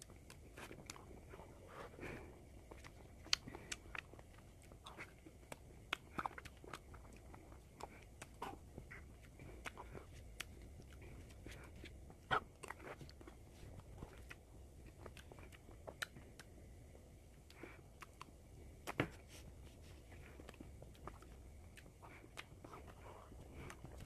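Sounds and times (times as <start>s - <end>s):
eating ice cream: 0.0s - 24.0s.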